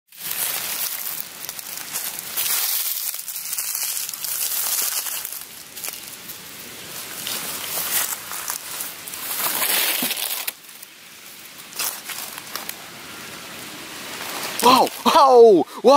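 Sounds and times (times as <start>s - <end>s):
sharp crackles: 0.1s - 15.2s
dry leaves and grass rustling: 0.1s - 15.9s.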